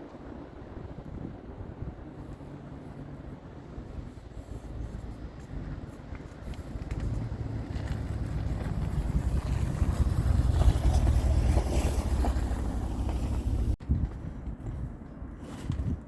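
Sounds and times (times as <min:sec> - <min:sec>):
wind on microphone: 0:00.0 - 0:16.0
truck engine rumbling: 0:00.1 - 0:13.8.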